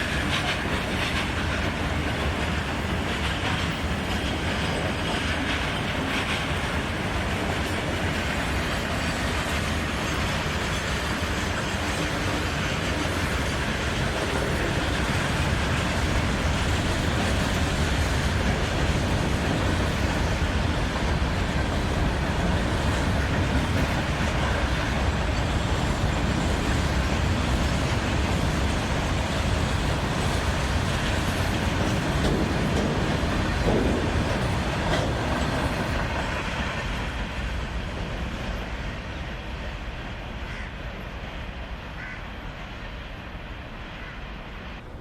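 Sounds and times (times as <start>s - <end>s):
train wheels rolling on rails: 0.0s - 45.0s.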